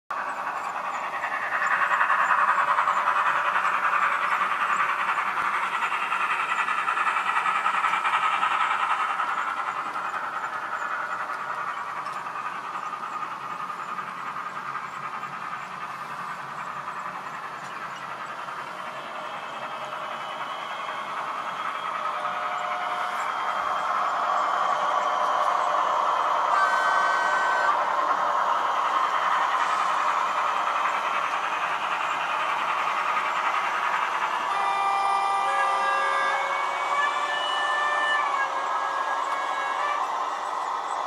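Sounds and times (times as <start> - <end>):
model train running on track: 0.1 - 41.0.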